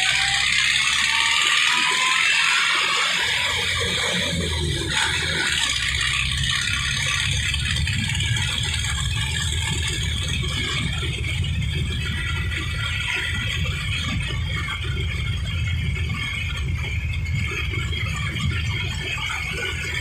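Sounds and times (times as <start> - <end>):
constant rattle: 0.0 - 20.0
tractor engine running: 0.0 - 20.0.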